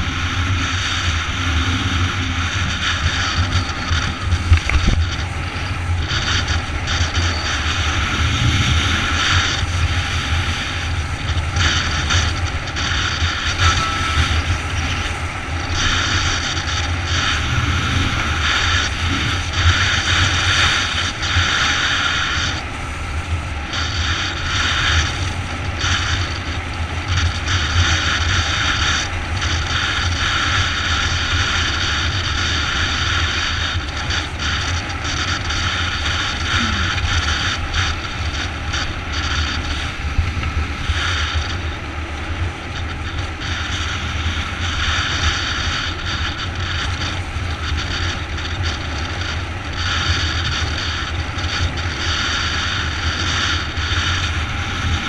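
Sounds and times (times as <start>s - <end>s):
motorbike engine drone: 0.0s - 55.0s
wind rushing over microphone: 0.0s - 55.0s.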